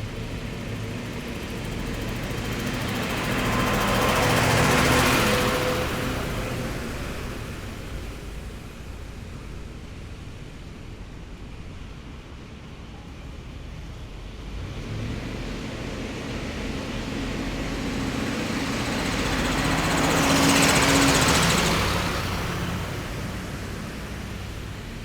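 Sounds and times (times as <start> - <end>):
heavy vehicle driving past: 0.0 - 25.0.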